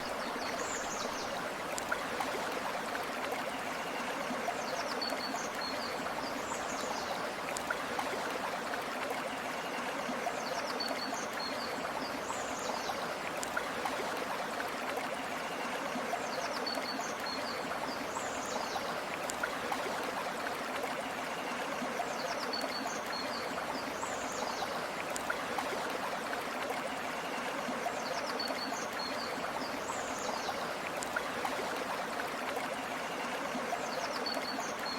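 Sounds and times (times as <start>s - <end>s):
river water flowing over stones: 0.0s - 34.9s.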